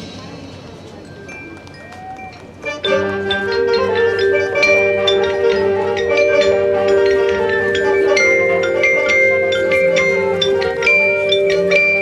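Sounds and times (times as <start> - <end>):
marching band music: 0.0 - 12.0
marimba and glockenspiel notes: 0.0 - 12.0.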